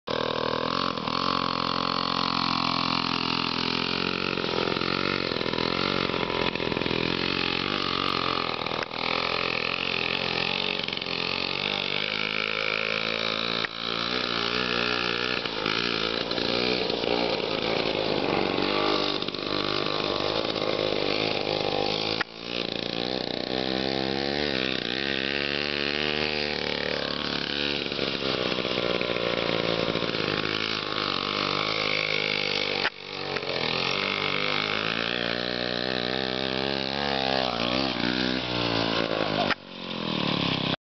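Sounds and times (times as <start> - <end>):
two-stroke engine running: 0.1 - 40.8.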